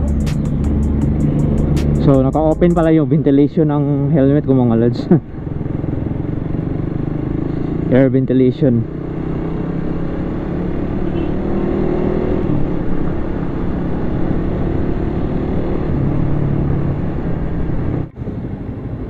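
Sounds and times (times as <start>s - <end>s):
low motorcycle engine hum: 0.0s - 19.0s.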